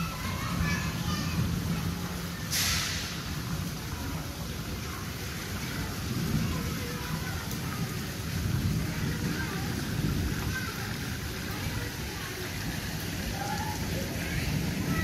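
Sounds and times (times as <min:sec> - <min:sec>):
low uneven rumble: 0:00.0 - 0:15.0
rain on wet concrete: 0:00.0 - 0:15.0.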